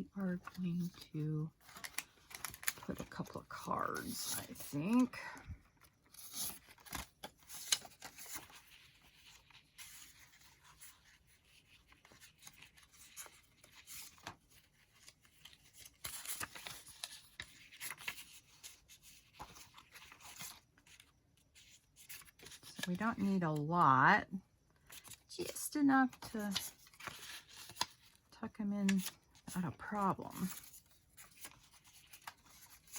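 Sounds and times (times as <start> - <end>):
paper rustling and scraping: 0.2 - 23.4, 24.8 - 32.9.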